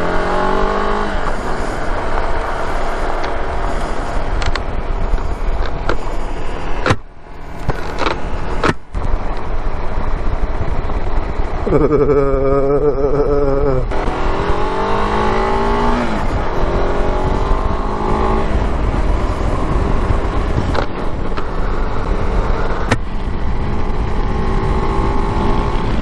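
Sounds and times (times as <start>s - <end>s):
car engine accelerating: 0.0s - 9.9s, 11.5s - 26.0s
road rumble: 0.0s - 26.0s.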